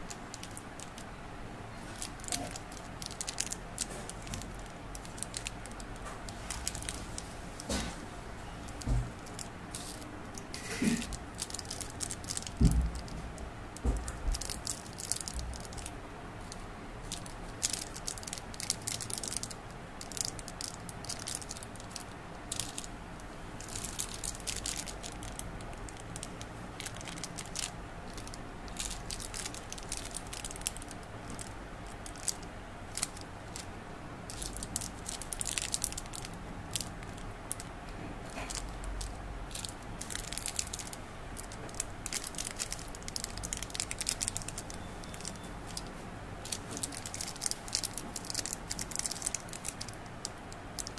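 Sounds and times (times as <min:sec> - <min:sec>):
plastic wrappers crinkling: 0:00.0 - 0:50.9.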